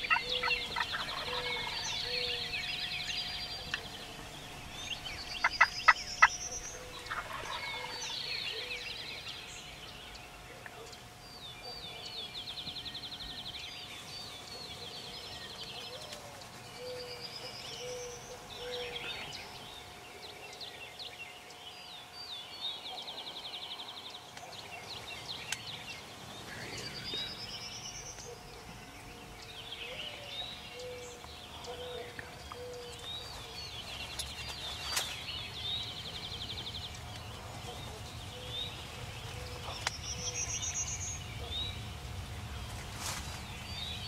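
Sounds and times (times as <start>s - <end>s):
bird chirps: 0.0s - 44.0s
faint steady hum: 0.0s - 44.0s
songbirds trilling: 0.0s - 44.0s.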